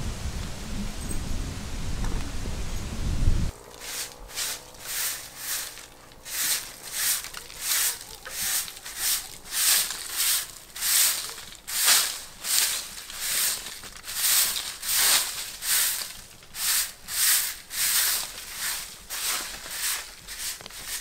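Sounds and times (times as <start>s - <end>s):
short scratchy rubbing strokes: 3.7s - 21.0s.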